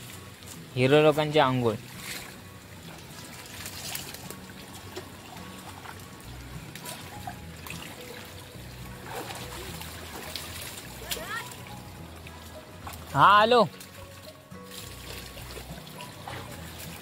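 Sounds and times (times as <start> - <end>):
water trickling: 0.0 - 17.0
splashes in shallow water: 1.6 - 17.0.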